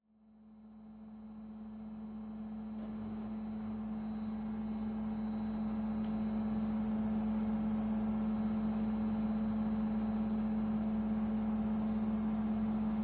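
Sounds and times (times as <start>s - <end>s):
washing machine humming: 0.8s - 13.0s.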